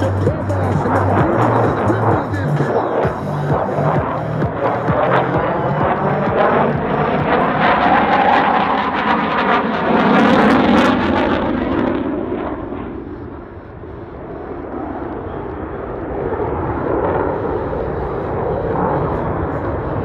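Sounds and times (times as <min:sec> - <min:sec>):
jet engines passing by: 0:00.0 - 0:20.0.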